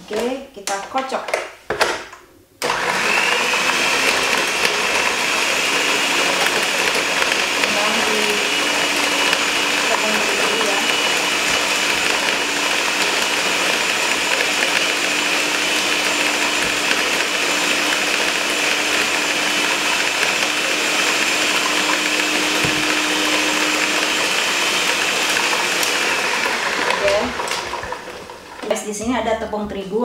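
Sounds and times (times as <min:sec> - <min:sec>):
stand mixer motor hum: 0:02.6 - 0:28.7.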